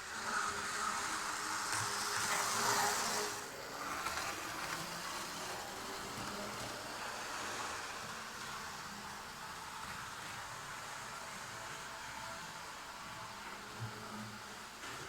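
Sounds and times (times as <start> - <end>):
model train motor whirring: 0.0 - 15.0
wheels hissing on rails: 0.0 - 15.0.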